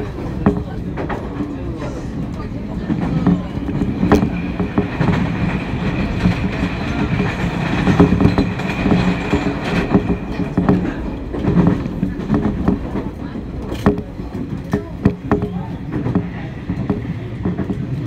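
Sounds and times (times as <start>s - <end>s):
electric train rumbling: 0.0s - 18.0s
wheels clicking over rail joints: 0.0s - 18.0s.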